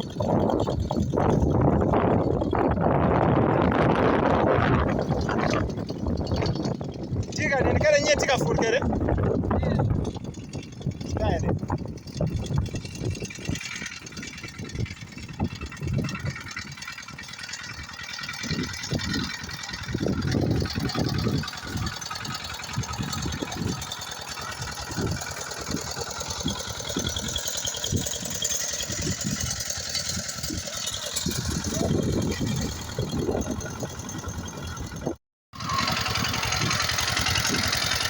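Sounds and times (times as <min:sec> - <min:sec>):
engine parts rattling and knocking: 0:00.0 - 0:38.0.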